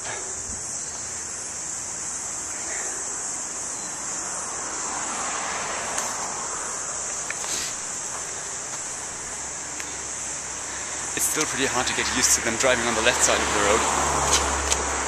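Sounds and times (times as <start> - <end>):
car passing: 0.0 - 15.0
cicadas droning: 0.0 - 15.0.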